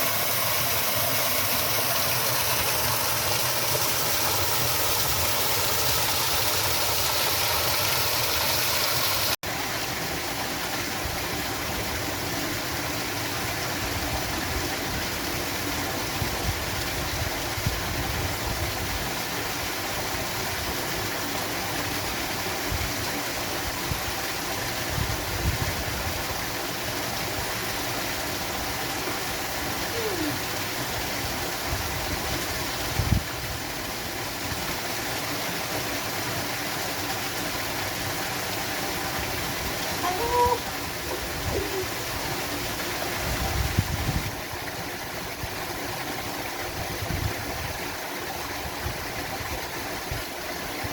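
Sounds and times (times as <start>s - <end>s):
flowing water rushing: 0.0s - 50.9s.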